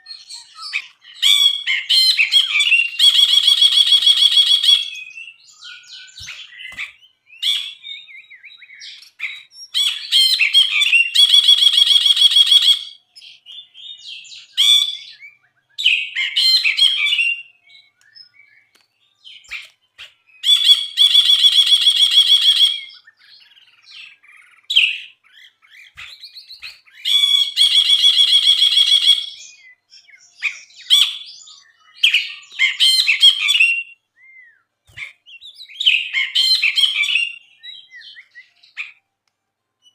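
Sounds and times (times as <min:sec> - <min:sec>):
bird chirps: 0:00.0 - 0:39.1.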